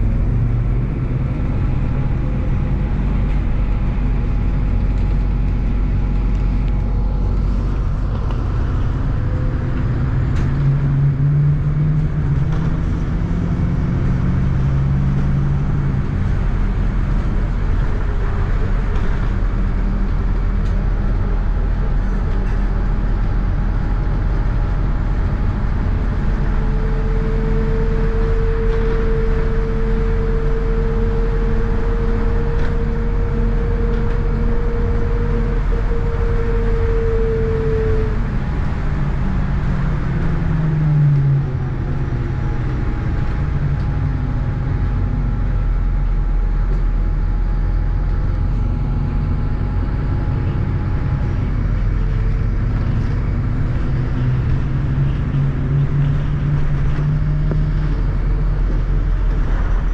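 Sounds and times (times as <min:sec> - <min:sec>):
bus engine and road noise: 0:00.0 - 0:59.9
steady high whine: 0:00.0 - 0:59.9.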